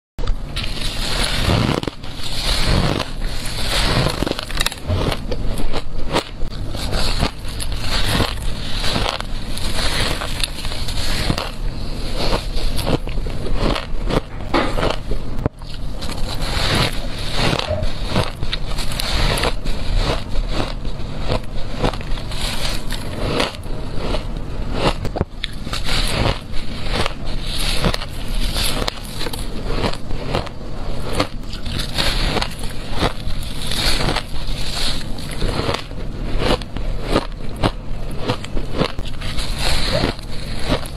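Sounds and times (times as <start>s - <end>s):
chewing: 0.3s - 40.9s.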